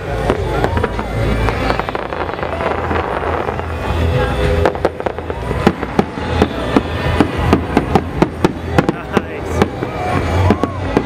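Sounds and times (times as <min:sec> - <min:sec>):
fireworks bangs and cracks: 0:00.0 - 0:11.0
low rumble: 0:00.0 - 0:11.0.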